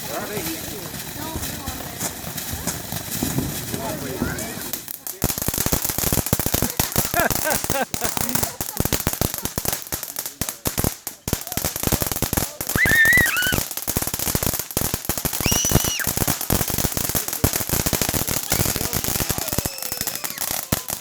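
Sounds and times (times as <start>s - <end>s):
firecrackers popping: 0.0s - 21.0s.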